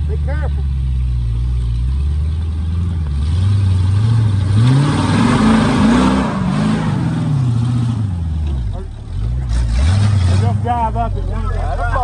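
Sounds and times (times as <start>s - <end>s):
engine revving: 1.4s - 12.0s.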